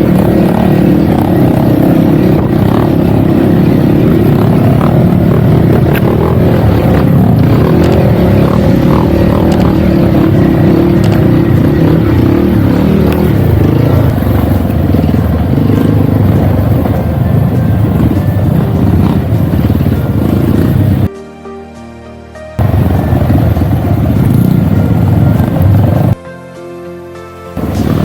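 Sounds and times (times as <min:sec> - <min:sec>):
dirt bike engine running: 0:00.0 - 0:21.1, 0:22.6 - 0:26.2, 0:27.6 - 0:28.0.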